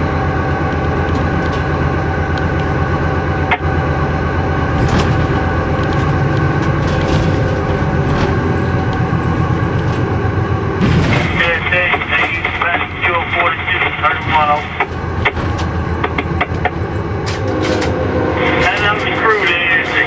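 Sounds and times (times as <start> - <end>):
locomotive engine drone: 0.0 - 20.0.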